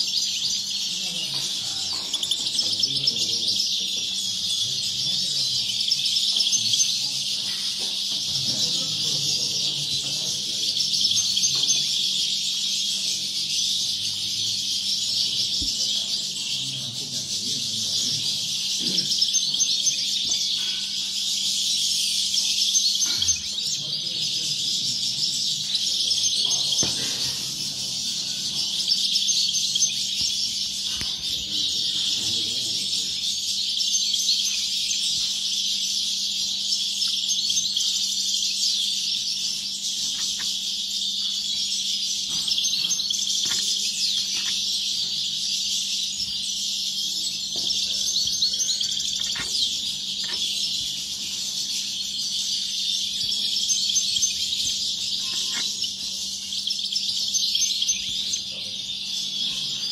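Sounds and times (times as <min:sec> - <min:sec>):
birds twittering chorus: 0:00.0 - 0:59.9.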